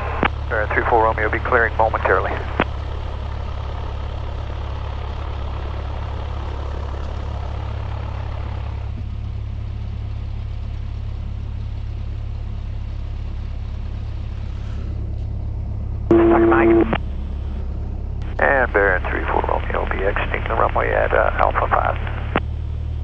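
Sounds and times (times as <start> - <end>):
airplane engine drone in cabin: 0.0 - 23.0.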